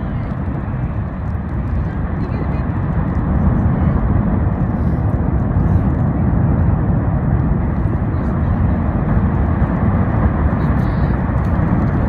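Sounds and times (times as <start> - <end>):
lava fountain roaring: 0.0 - 12.0.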